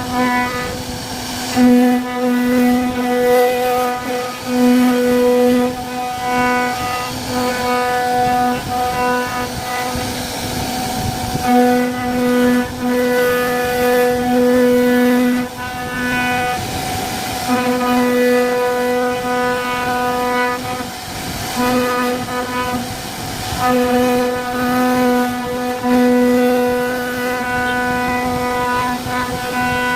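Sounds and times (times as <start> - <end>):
router machine carving wood: 0.0 - 29.9.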